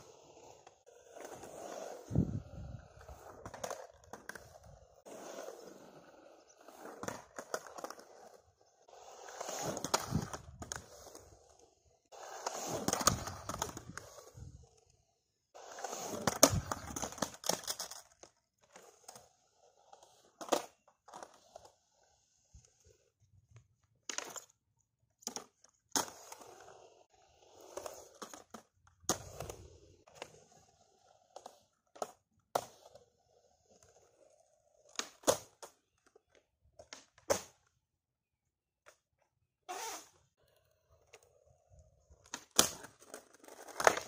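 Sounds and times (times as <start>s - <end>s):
skateboard rolling on concrete: 0.0s - 44.0s.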